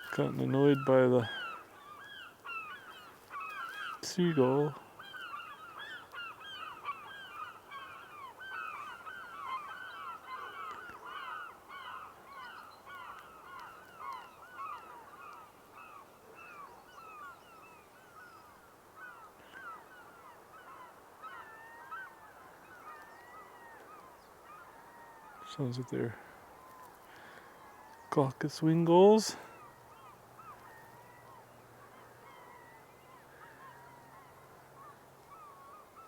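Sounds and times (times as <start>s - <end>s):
gulls calling: 0.0s - 36.0s.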